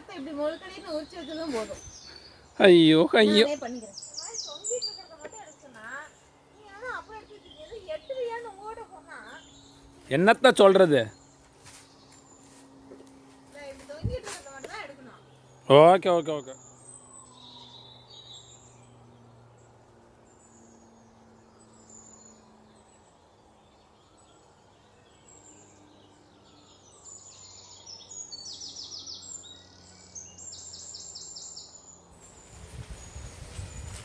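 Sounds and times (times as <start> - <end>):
birds chirping: 0.0 - 34.0
faint background hum: 0.0 - 34.0.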